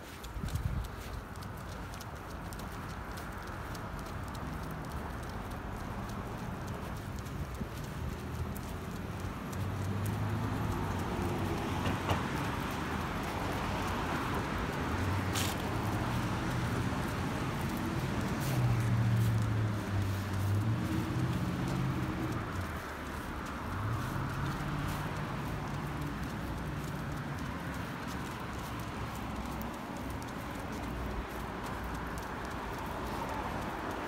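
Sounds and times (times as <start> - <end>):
sharp clicks: 0.2 - 34.0.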